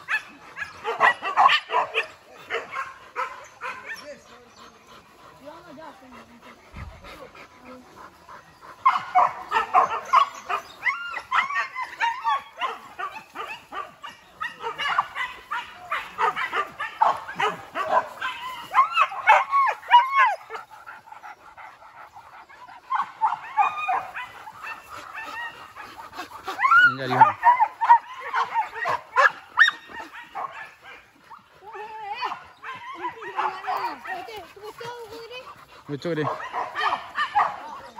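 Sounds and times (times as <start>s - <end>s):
dogs yelping and barking: 0.0s - 37.9s.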